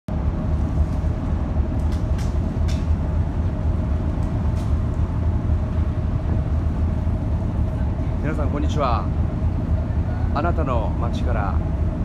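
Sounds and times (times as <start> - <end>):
ferry engines droning: 0.1 - 12.0.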